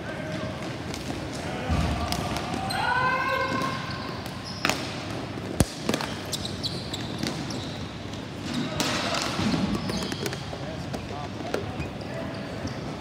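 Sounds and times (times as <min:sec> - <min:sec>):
hockey sticks and ball clacking: 0:00.3 - 0:02.8, 0:03.4 - 0:13.0.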